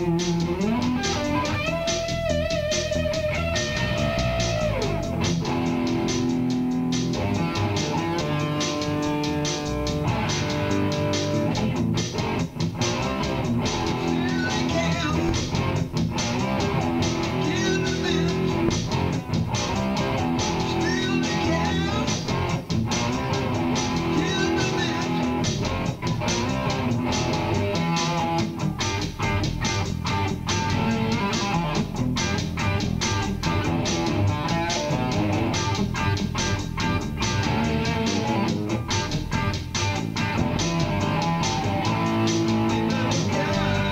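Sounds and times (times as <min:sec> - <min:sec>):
bass guitar line: 0:00.0 - 0:43.9
guitar-led song: 0:00.0 - 0:43.9.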